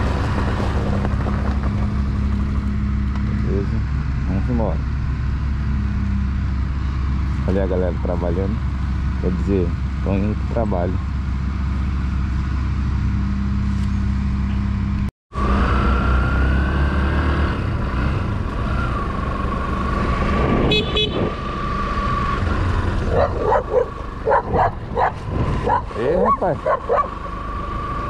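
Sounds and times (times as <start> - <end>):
vehicle engine and road rumble: 0.0 - 28.0.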